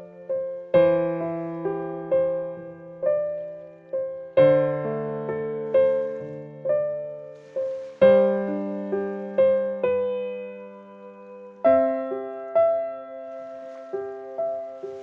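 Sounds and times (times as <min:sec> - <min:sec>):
gentle solo piano music: 0:00.0 - 0:15.0.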